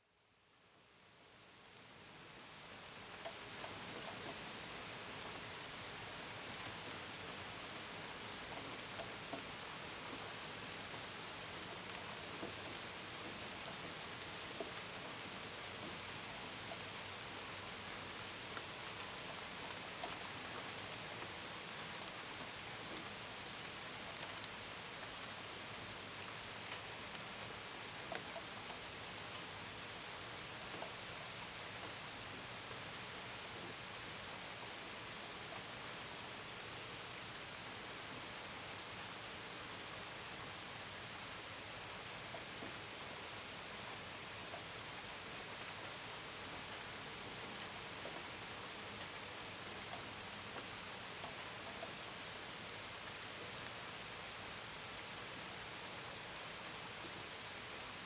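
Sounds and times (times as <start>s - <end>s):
steady rain: 0.0s - 58.0s
crickets chirping: 1.3s - 58.0s.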